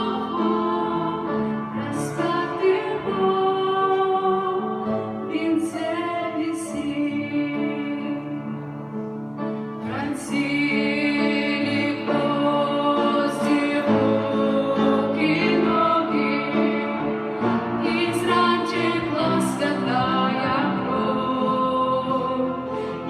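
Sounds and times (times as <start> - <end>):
women singing: 0.0 - 8.5, 9.8 - 23.0
instrumental accompaniment: 0.0 - 23.0.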